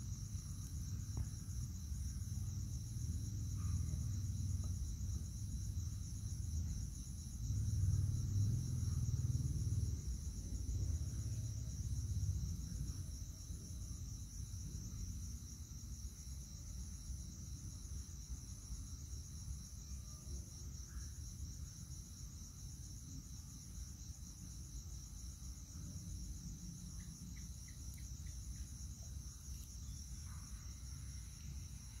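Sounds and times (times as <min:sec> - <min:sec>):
night insects trilling: 0:00.0 - 0:32.0.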